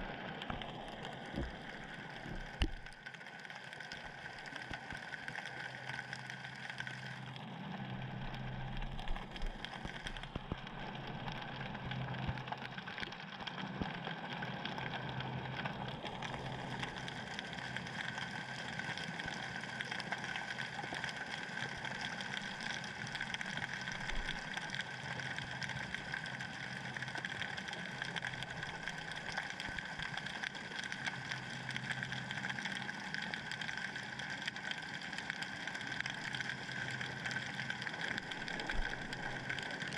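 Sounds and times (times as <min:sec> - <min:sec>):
crackle of tiny clicks: 0:00.0 - 0:39.9
underwater low hum: 0:00.0 - 0:39.9.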